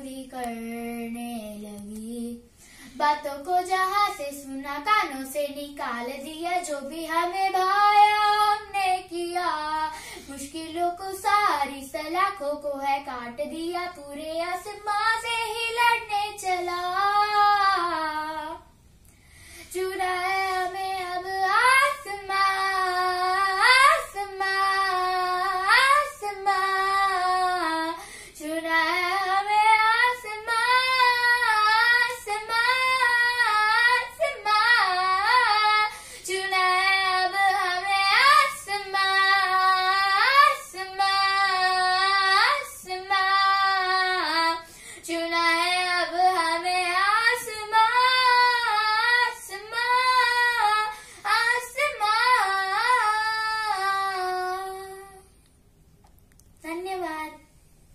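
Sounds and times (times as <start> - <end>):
girl singing unaccompanied: 0.0 - 55.4, 56.5 - 57.6.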